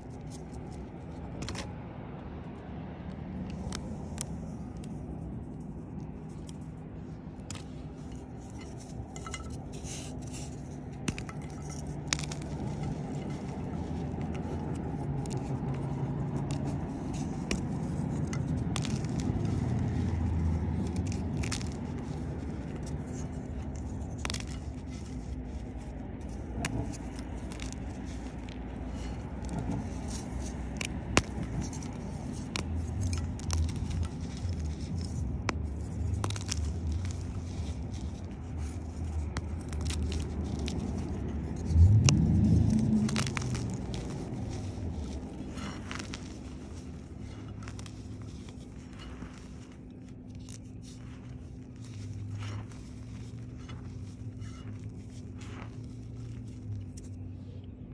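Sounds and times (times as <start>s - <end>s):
powder scraping: 0.0s - 2.3s, 3.4s - 57.9s
steady low hum: 0.0s - 57.9s
chalk crunching in a ceramic bowl: 6.2s - 57.8s.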